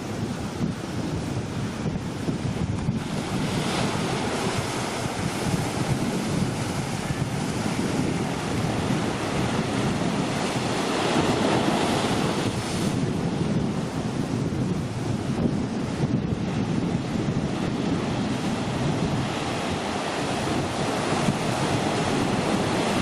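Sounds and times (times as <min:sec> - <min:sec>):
heavy surf breaking against a wall: 0:00.0 - 0:23.0
wind buffeting microphone: 0:00.0 - 0:23.0.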